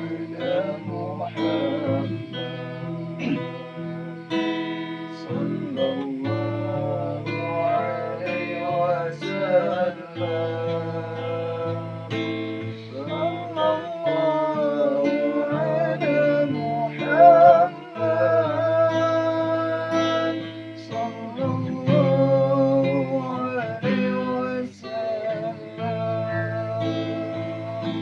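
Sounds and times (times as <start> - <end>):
instrumental accompaniment: 0.0 - 28.0
person singing ornamented notes: 0.0 - 28.0.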